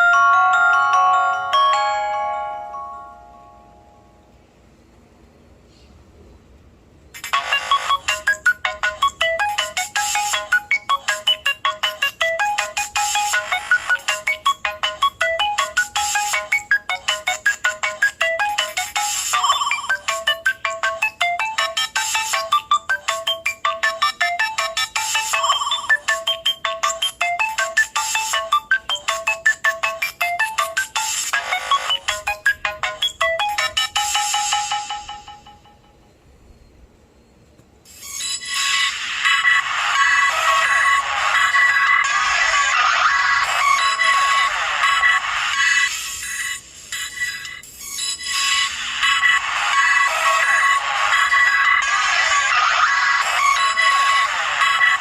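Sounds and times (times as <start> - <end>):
electronic ringtone melody: 0.0 - 4.2, 7.2 - 36.1, 38.0 - 55.0.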